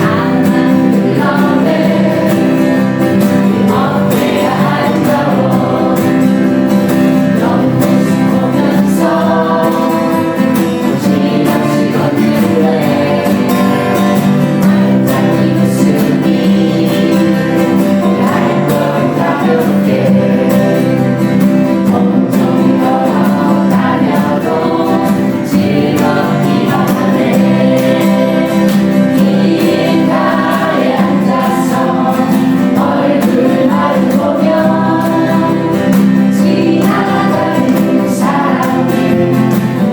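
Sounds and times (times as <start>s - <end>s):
group of voices singing: 0.0s - 39.9s.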